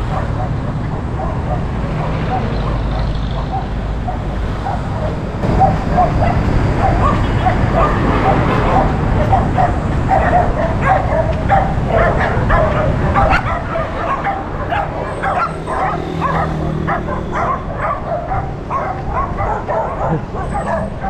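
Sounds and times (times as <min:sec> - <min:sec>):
dogs barking and yapping: 0:00.0 - 0:21.0.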